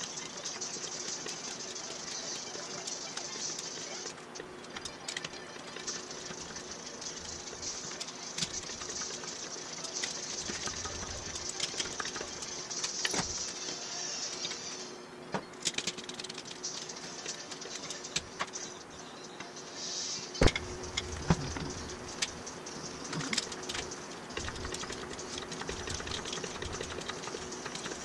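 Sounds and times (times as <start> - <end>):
steady hum and hiss: 0.0 - 28.0.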